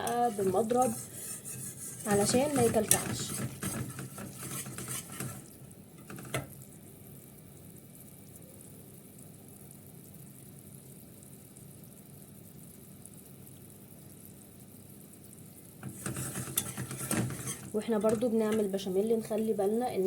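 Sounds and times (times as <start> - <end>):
roux sizzling in a pan: 0.0 - 20.0.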